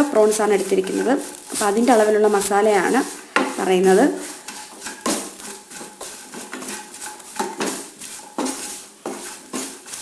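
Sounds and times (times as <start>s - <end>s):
spoon scraping and knocking pan: 0.0s - 10.0s.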